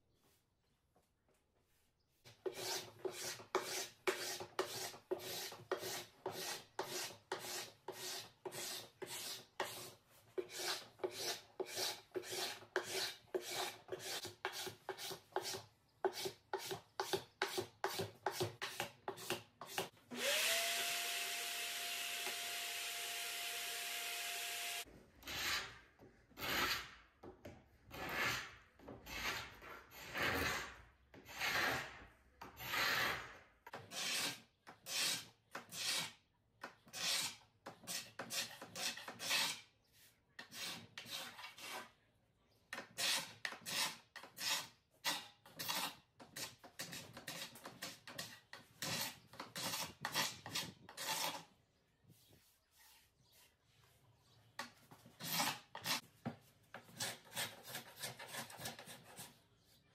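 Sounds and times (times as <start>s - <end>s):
paint scraper scraping wood: 2.3s - 20.4s, 27.9s - 42.0s, 42.7s - 54.0s, 54.6s - 59.9s.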